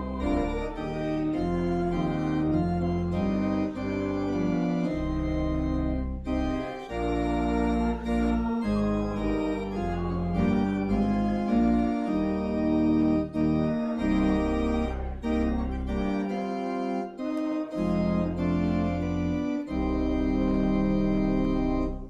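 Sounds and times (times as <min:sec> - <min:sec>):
church organ playing chords: 0:00.0 - 0:22.0.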